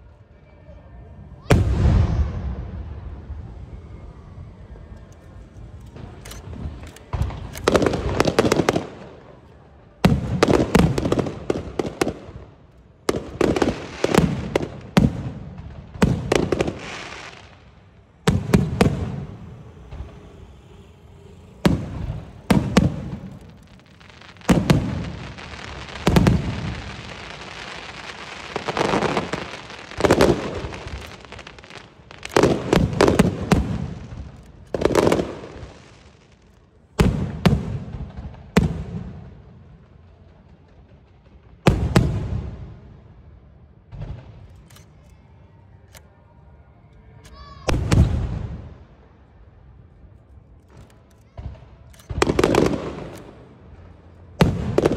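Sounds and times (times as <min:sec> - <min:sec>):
fireworks bangs: 0:01.4 - 0:45.0, 0:47.3 - 0:49.6, 0:50.7 - 0:54.9
fireworks crackling: 0:01.4 - 0:45.0, 0:47.3 - 0:54.9.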